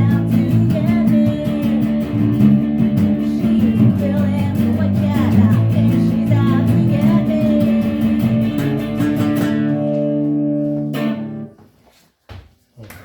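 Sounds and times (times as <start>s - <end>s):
rock guitars strumming: 0.0s - 11.6s.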